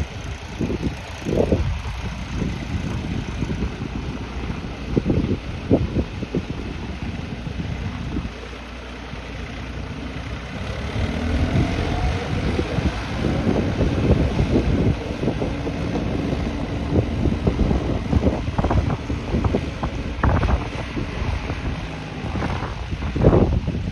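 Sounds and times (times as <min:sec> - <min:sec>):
tractor engine running: 0:00.0 - 0:23.9
wind buffeting microphone: 0:00.0 - 0:23.9.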